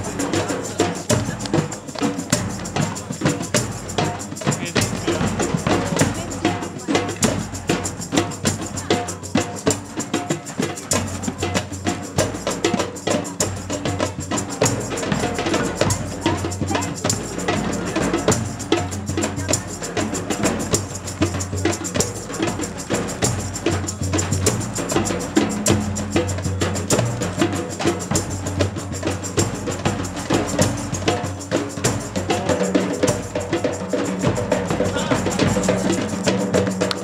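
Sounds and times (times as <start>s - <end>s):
drumming on a large drum: 0.0s - 37.0s.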